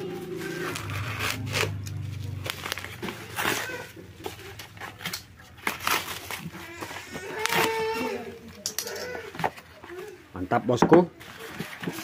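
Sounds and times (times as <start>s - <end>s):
paper and plastic tearing: 0.4s - 10.2s, 11.2s - 12.0s
wrapping crinkling: 0.4s - 10.2s.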